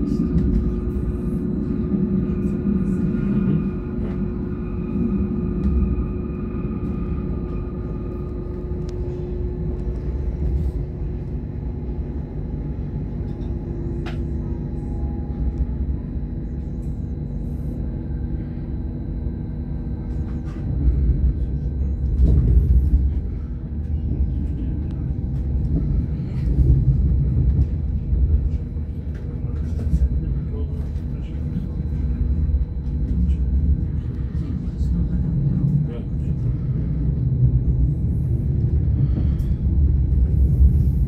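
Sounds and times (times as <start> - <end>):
rumble of wheels on rail: 0.0 - 41.0.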